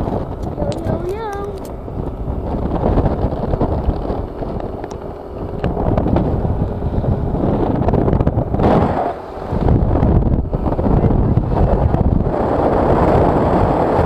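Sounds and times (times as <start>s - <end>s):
scooter engine running: 0.0s - 14.0s
wind buffeting microphone: 0.0s - 14.0s.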